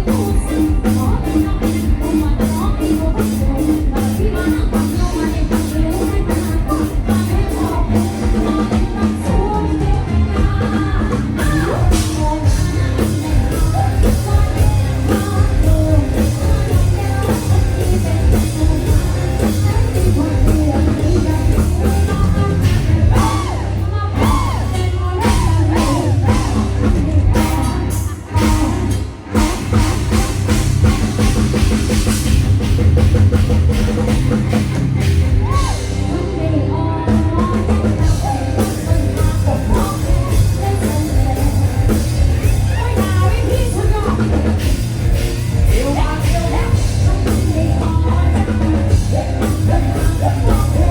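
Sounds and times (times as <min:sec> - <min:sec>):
drum kit: 0:00.0 - 0:36.4, 0:37.0 - 0:50.9
live band music: 0:00.0 - 0:50.9
person singing: 0:00.0 - 0:50.9.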